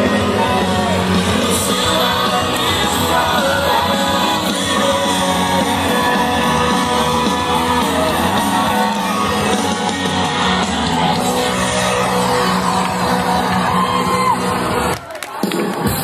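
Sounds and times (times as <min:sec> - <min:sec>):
voices singing and shouting: 0:00.0 - 0:15.0
loud music: 0:00.0 - 0:16.0.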